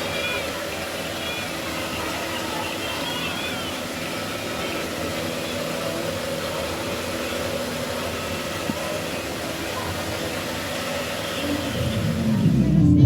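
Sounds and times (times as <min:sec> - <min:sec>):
engine-like hum: 0:00.0 - 0:13.0
street noise: 0:00.0 - 0:13.0.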